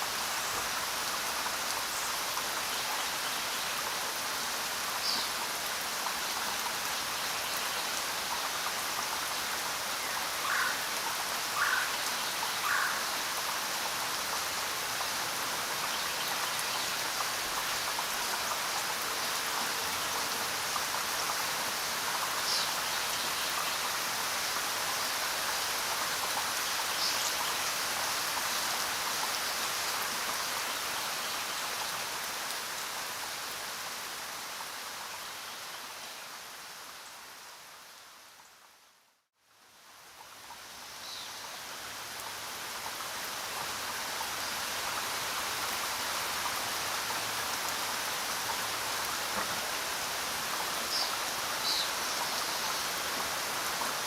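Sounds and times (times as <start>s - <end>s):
faint chirp-like sounds: 0.0s - 54.0s
steady rain falling: 0.0s - 54.0s.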